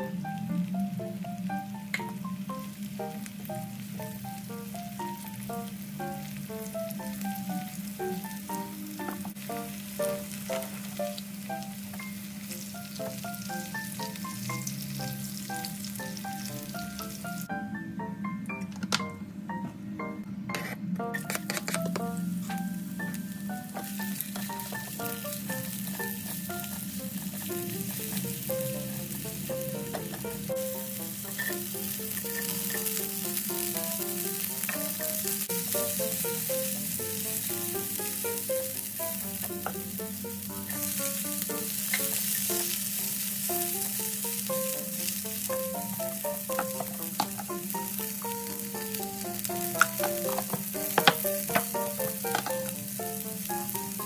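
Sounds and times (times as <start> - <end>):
vegetables sizzling in a pan: 0.0 - 17.5, 22.0 - 54.0.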